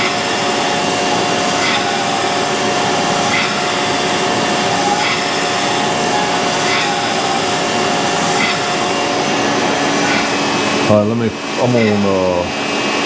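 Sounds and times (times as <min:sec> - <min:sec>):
grinding wheel grinding metal: 0:00.0 - 0:13.0.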